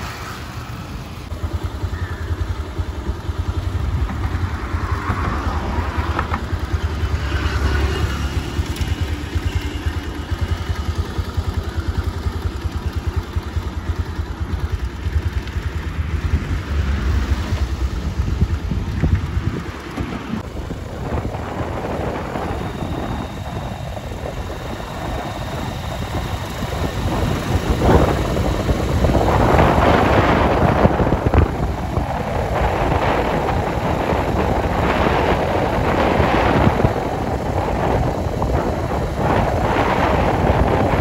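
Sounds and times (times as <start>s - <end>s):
moving vehicle rumble: 0.0s - 41.0s
wind buffeting microphone: 0.0s - 41.0s.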